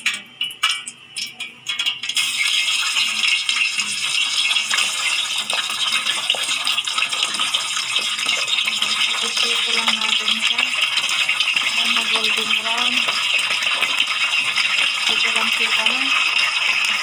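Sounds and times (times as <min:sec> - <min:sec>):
deep-frying oil crackling and sizzling: 0:00.0 - 0:17.0.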